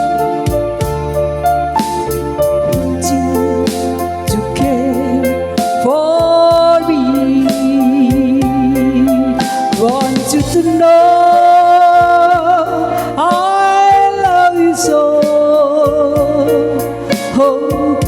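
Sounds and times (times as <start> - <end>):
live band playing: 0.0 - 18.0
woman singing with vibrato: 0.0 - 18.0.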